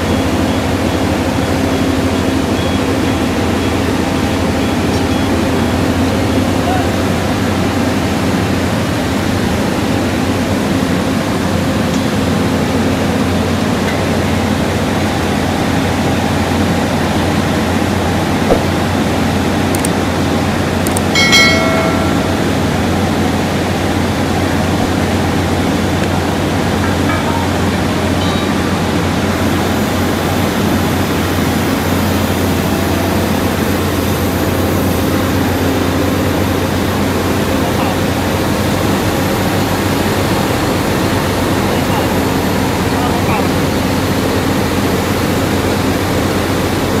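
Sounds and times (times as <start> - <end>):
machine power unit humming: 0.0 - 46.9.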